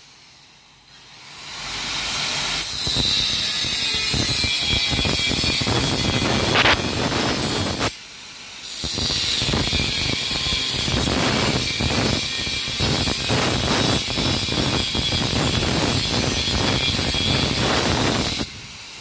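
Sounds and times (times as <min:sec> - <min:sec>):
angle grinder cutting metal: 0:00.0 - 0:19.0.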